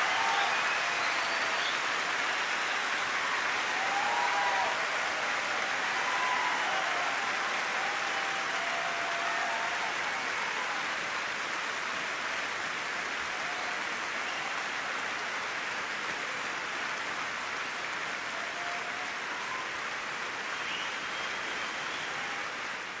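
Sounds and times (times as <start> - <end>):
audience clapping: 0.0 - 23.0.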